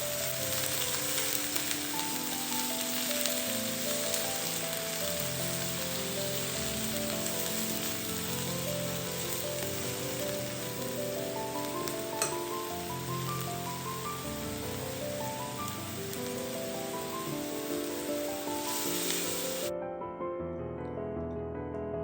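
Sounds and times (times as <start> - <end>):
food sizzling in a pan: 0.0 - 19.7
melodic background music: 0.1 - 19.8.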